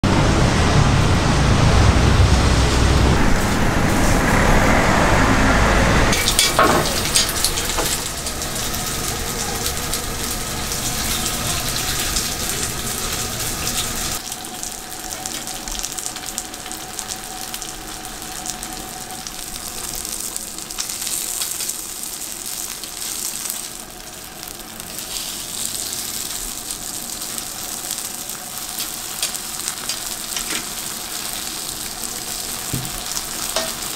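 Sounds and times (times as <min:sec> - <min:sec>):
street traffic rumble: 0:00.0 - 0:33.9
dumplings sizzling in oil: 0:06.1 - 0:33.9.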